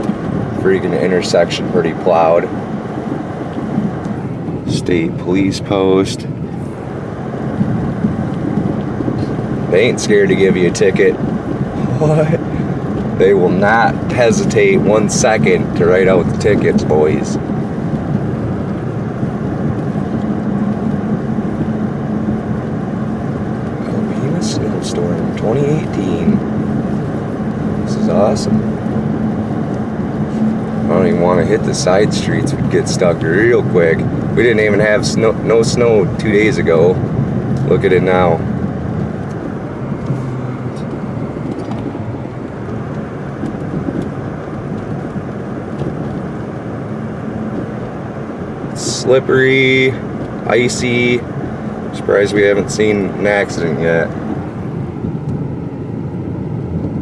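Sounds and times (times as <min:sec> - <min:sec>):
car engine hum inside cabin: 0:00.0 - 0:57.0
road and tyre noise: 0:00.0 - 0:57.0.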